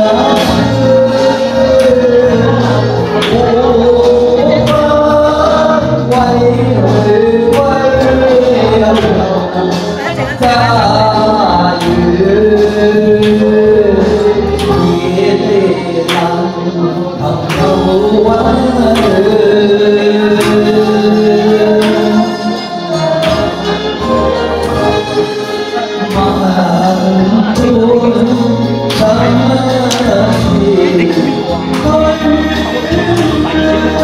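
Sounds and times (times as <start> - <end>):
man singing into a microphone: 0.0 - 34.0
recorded backing track: 0.0 - 34.0.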